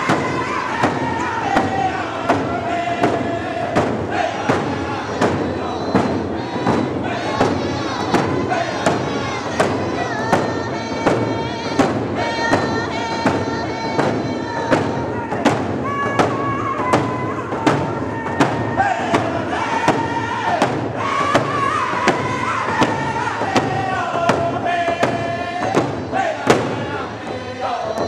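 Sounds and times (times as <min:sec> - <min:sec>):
frame drums beating: 0:00.0 - 0:28.0
men singing together: 0:00.0 - 0:28.0.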